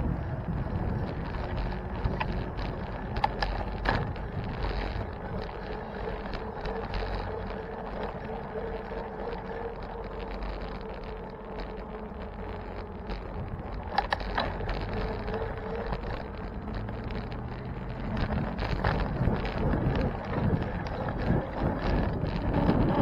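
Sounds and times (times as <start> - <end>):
bicycle road noise: 0.0 - 23.0
faint steady hum: 0.0 - 23.0
motor traffic rumble: 0.0 - 23.0
wind rumble on microphone: 0.0 - 23.0.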